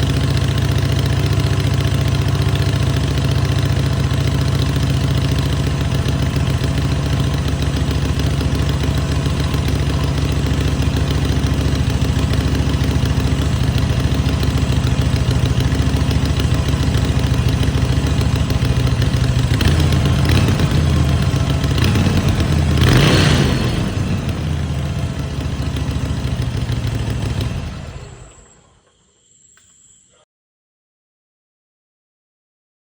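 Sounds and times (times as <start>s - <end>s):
motorcycle engine idling: 0.0s - 29.3s.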